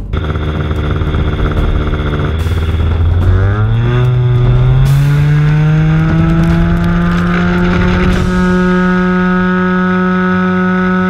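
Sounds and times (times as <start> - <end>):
model airplane engine revving: 0.0 - 11.0.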